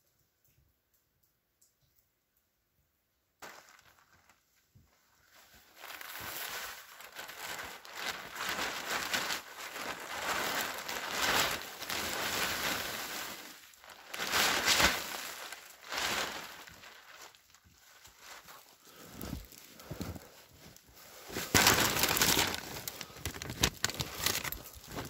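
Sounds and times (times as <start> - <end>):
tarp rustling and crinkling: 3.4 - 25.0.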